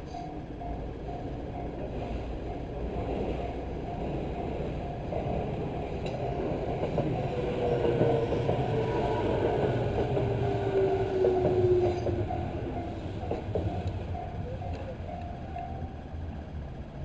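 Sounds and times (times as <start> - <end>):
train tone falling in pitch: 0.0 - 16.4
electric train running: 0.0 - 17.0
level crossing bell ringing: 0.2 - 16.0.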